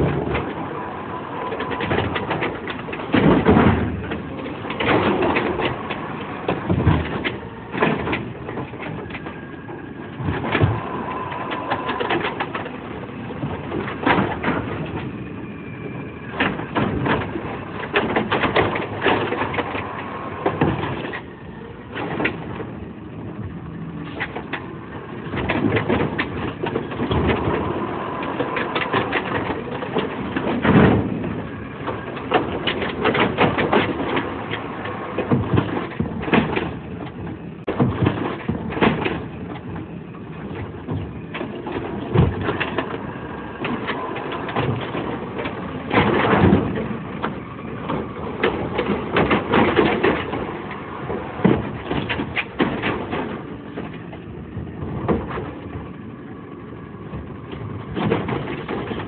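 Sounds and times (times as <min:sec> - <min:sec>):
garbage truck engine running: 0:00.0 - 0:59.0
sharp knocks and clanks: 0:01.4 - 0:21.3, 0:24.0 - 0:56.0, 0:57.1 - 0:59.0.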